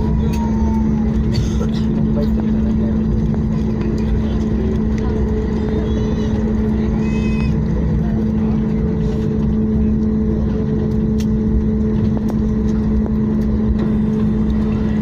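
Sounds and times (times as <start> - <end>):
aircraft cabin hum: 0.0 - 15.0
low rumble: 0.0 - 15.0.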